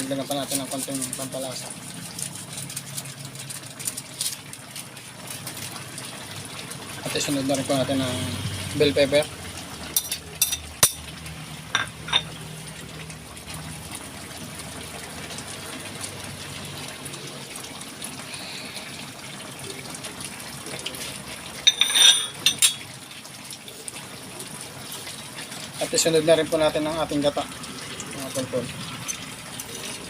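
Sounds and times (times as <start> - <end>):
curry bubbling in a pot: 0.0 - 21.7, 22.3 - 30.0.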